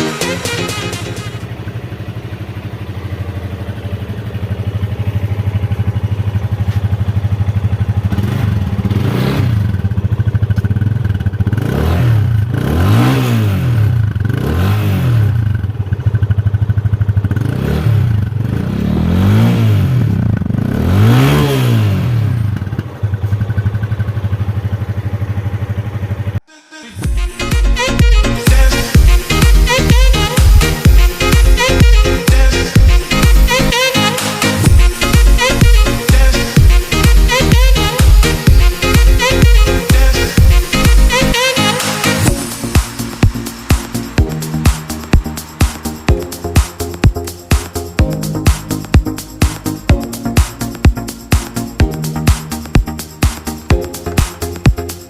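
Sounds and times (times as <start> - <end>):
motorcycle engine idling and revving: 0.0 - 26.4, 27.0 - 55.0.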